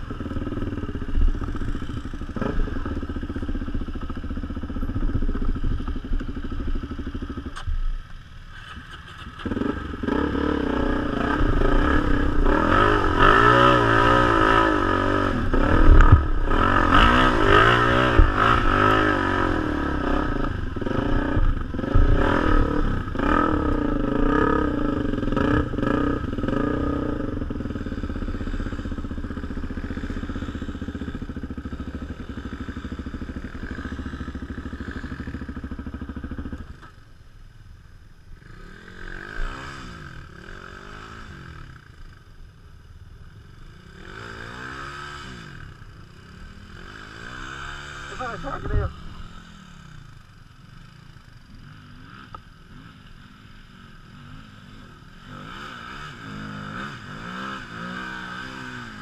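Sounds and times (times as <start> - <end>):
motorcycle engine revving: 0.0 - 37.2, 38.3 - 59.0.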